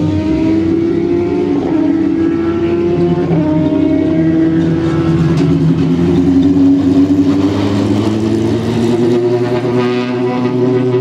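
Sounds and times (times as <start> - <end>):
racing car engine at low revs: 0.0 - 11.0.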